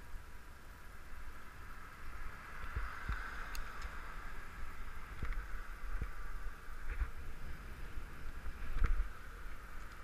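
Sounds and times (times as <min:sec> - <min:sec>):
road noise: 0:00.0 - 0:10.0
wind rumble on microphone: 0:00.0 - 0:10.0.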